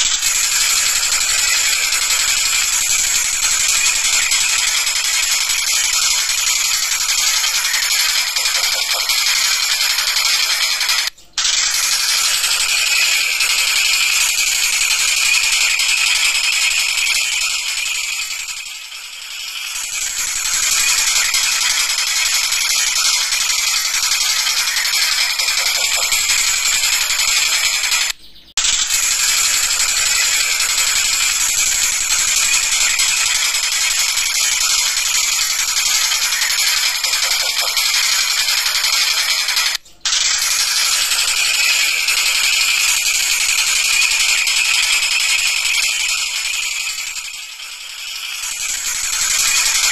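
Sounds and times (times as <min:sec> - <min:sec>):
kingfisher rattling chatter: 0:00.2 - 0:28.1, 0:28.8 - 0:49.9.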